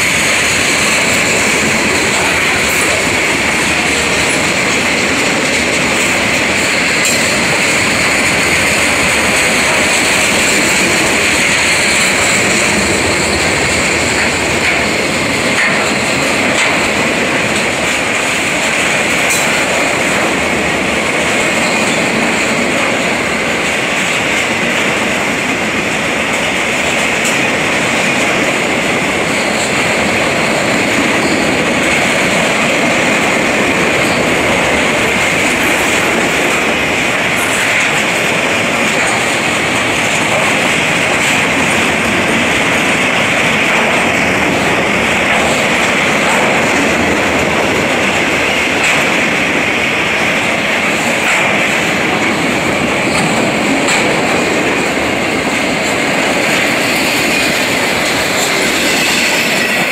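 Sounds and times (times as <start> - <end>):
steel wheels on rails: 0.0 - 59.9.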